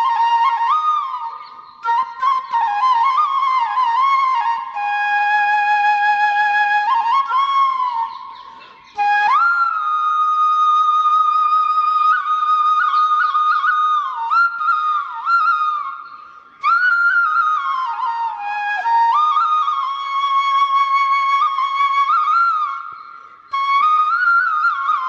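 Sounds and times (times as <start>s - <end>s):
solo flute melody: 0.0s - 25.0s.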